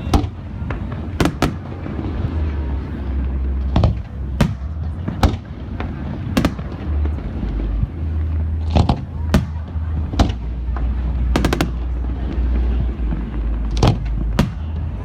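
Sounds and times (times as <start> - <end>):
fireworks bangs: 0.0 - 15.0
steady low rumble: 0.0 - 15.0.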